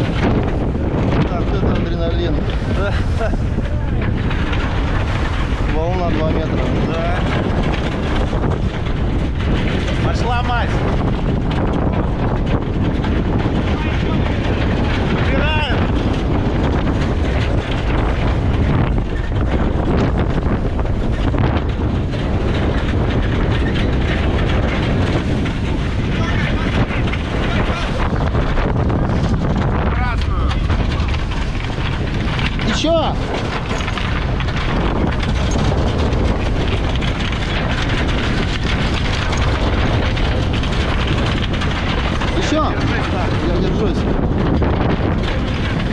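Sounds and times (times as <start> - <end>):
wind buffeting the microphone: 0.0 - 45.9.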